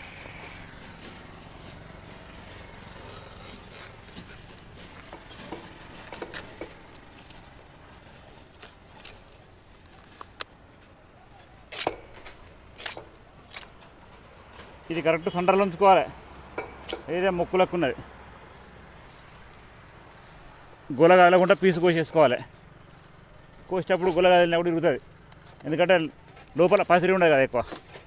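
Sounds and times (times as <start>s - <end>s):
dry palm fibre crackling: 0.0s - 28.0s.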